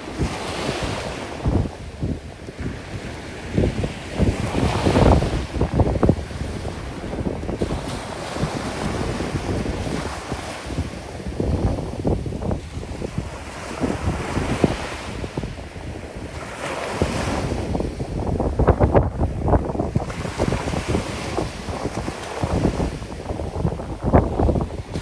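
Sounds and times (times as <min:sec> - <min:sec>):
sea waves on beach: 0:00.0 - 0:25.0
wind buffeting microphone: 0:00.0 - 0:25.0.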